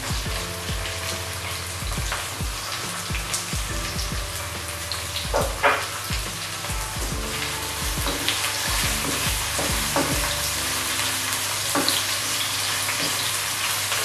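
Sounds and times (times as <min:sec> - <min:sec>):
background music with steady beat: 0:00.0 - 0:14.0
onions frying in hot oil: 0:00.0 - 0:14.0.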